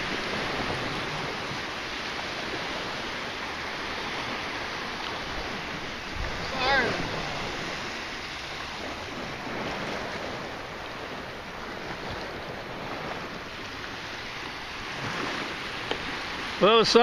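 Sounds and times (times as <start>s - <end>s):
wind noise on microphone: 0.0s - 16.6s
small waves washing: 0.0s - 17.0s.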